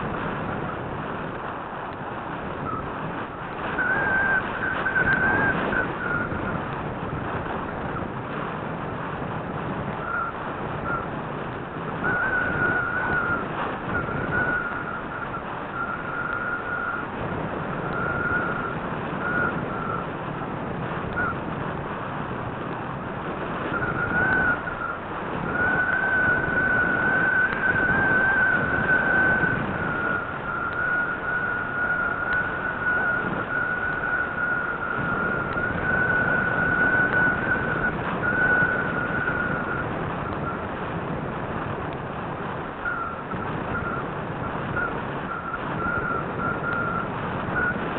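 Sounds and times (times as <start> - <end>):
high wavering motor whine: 1.9 - 8.4, 9.7 - 47.9.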